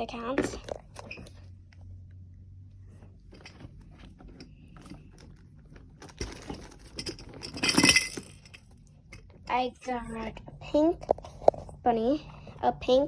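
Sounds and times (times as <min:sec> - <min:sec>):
rustling and scraping: 0:00.3 - 0:02.0, 0:02.7 - 0:13.0.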